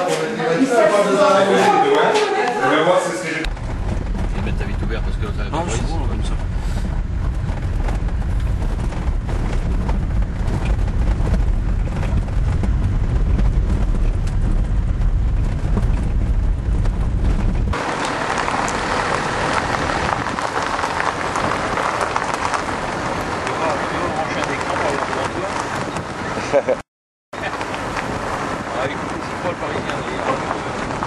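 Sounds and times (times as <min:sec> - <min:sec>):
car engine and tyres rumbling: 0:03.4 - 0:31.0.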